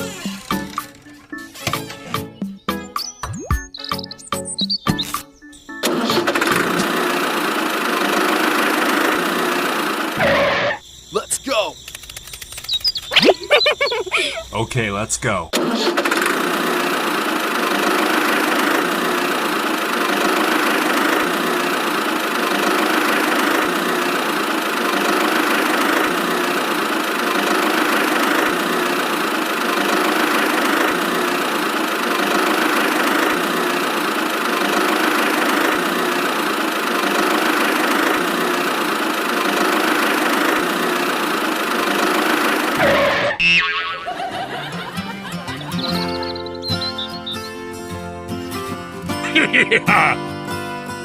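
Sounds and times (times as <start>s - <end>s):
toy tractor engine drone: 0.0s - 2.0s, 5.7s - 10.8s, 11.4s - 14.6s, 15.5s - 47.0s, 49.3s - 50.2s.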